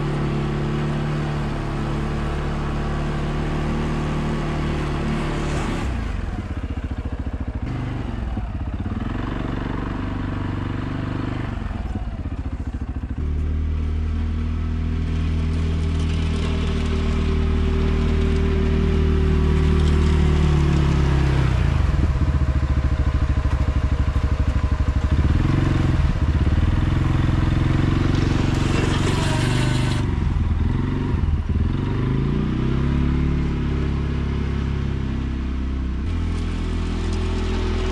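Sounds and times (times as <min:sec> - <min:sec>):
atv engine running under load: 0:00.0 - 0:37.9.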